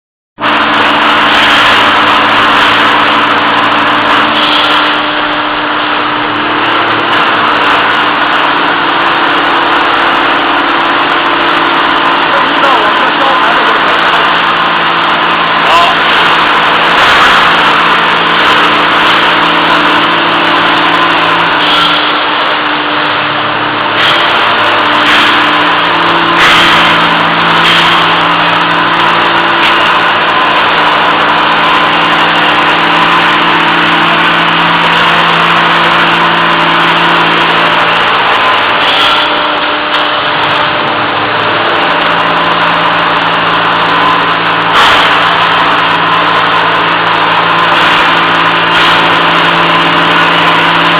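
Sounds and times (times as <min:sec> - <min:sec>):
machine noise with low hum: 0:00.4 - 0:50.9.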